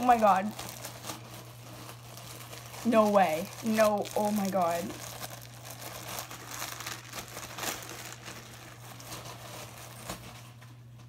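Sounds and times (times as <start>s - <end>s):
wrapping crinkling and rustling: 0.0s - 11.0s.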